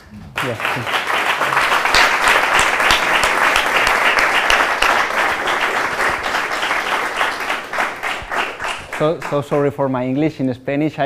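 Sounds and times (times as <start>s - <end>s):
audience applauding: 0.3s - 9.9s.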